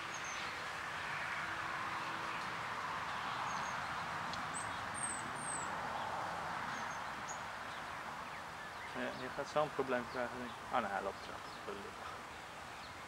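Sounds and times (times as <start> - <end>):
rushing background hiss: 0.0 - 13.0
small birds chirping: 0.0 - 13.0.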